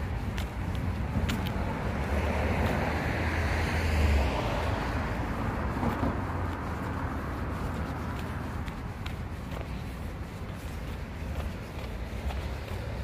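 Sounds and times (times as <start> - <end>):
car tyres passing on road: 0.0 - 13.0.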